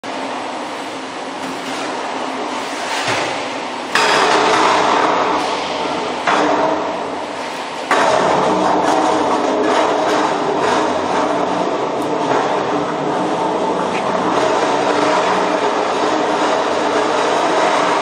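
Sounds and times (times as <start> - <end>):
factory machinery din: 0.0 - 18.0.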